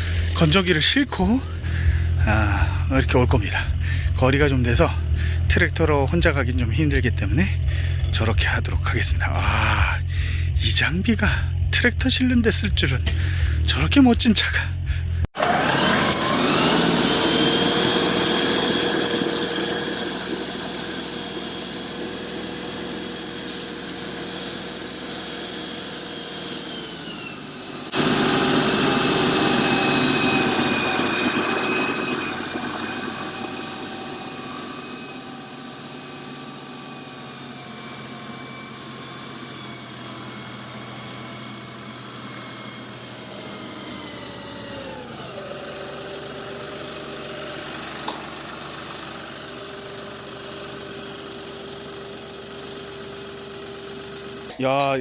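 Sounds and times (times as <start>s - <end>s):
vehicle engine revving: 0.0s - 54.6s
engine drone winding down: 0.0s - 55.0s.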